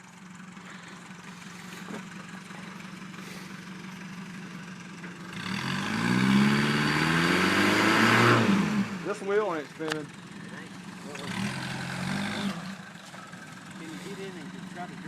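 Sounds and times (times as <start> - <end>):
pickup truck engine idling and revving: 0.0 - 15.0.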